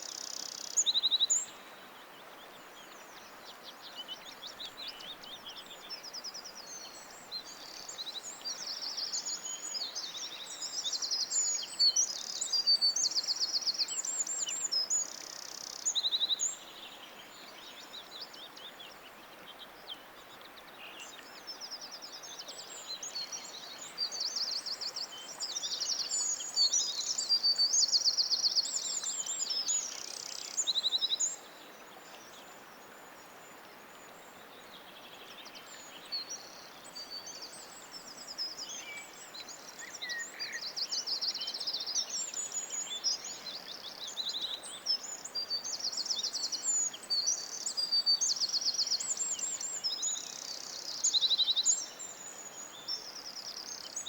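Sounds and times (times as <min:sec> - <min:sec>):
faint steady hiss: 0:00.0 - 0:54.0
songbirds trilling and chirping: 0:00.0 - 0:54.0.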